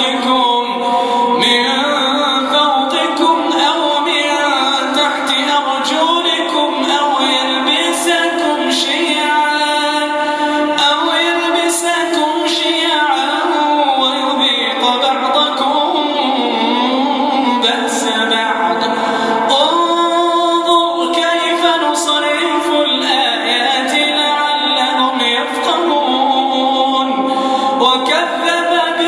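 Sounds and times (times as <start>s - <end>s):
man reciting melodically: 0.0s - 29.0s.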